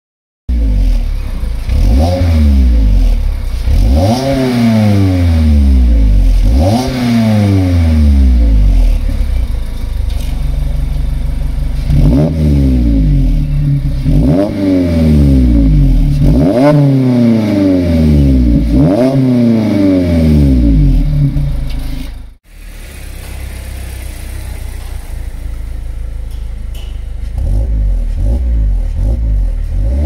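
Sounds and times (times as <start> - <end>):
car engine revving: 0.5 - 30.0.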